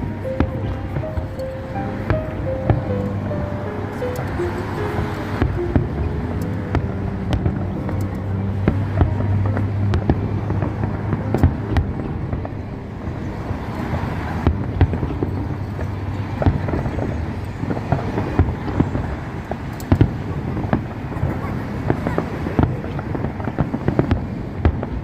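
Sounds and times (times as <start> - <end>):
low rumble: 0.0 - 21.8
distant fireworks bangs and pops: 0.0 - 25.0.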